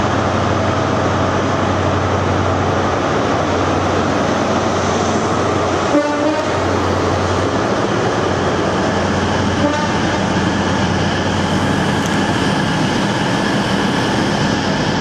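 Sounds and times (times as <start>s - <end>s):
train passing with rumble: 0.0s - 15.0s.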